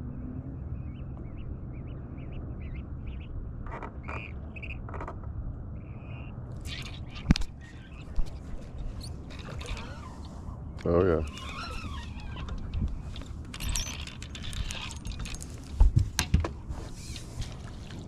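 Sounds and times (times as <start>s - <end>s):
birds chirping: 0.0s - 4.9s, 5.7s - 15.5s
steady low rumble: 0.0s - 16.7s.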